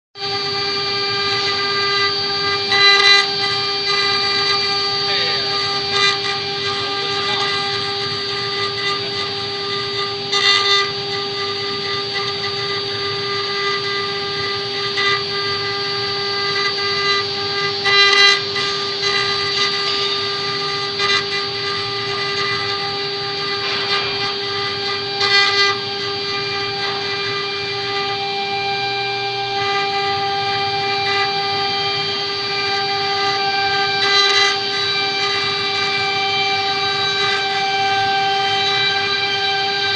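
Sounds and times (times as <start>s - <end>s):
router spindle whining: 0.2s - 39.9s
wood cutting noise: 0.2s - 39.9s.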